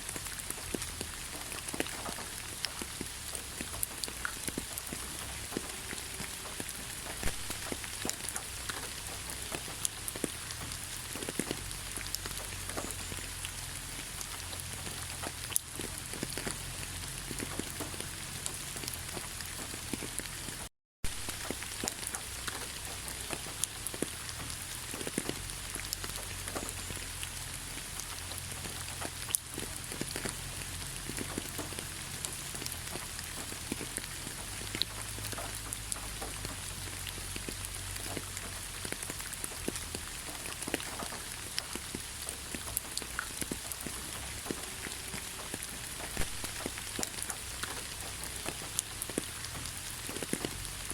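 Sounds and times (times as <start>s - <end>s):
rain falling: 0.0s - 50.9s
raindrops ticking on a surface: 0.0s - 50.9s.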